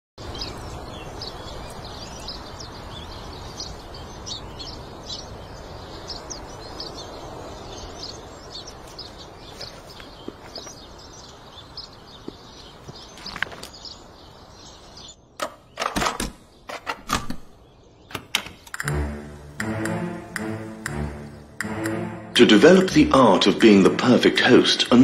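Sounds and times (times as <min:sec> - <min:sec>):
birds chirping: 0:00.2 - 0:25.0
outdoor background hiss: 0:00.2 - 0:25.0.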